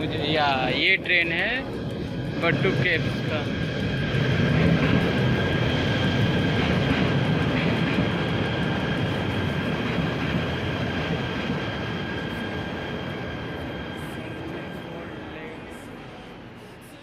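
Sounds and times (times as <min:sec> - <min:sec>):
train carriages rumbling: 0:00.0 - 0:17.0
train high whine: 0:00.0 - 0:17.0.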